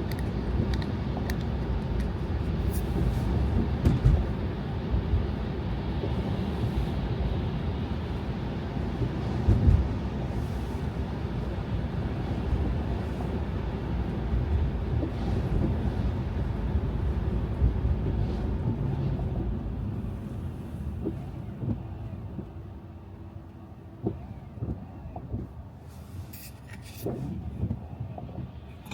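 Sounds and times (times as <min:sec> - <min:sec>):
car tyres and engine rumble: 0:00.0 - 0:28.9.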